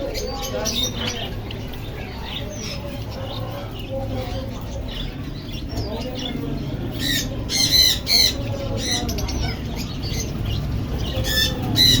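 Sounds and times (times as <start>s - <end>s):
sparrows giving sharp calls: 0.0s - 12.0s.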